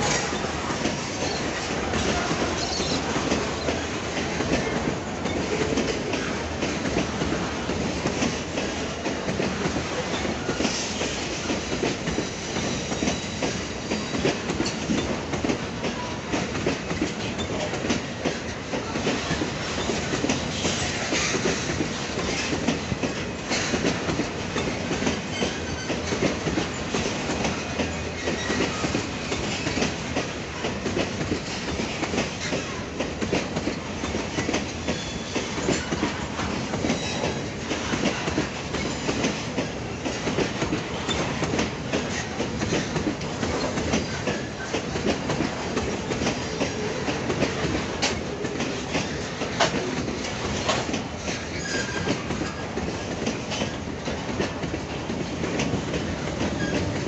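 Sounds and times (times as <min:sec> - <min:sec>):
steady train rumble: 0:00.0 - 0:57.0
train wheels clattering over rail joints: 0:00.0 - 0:57.0.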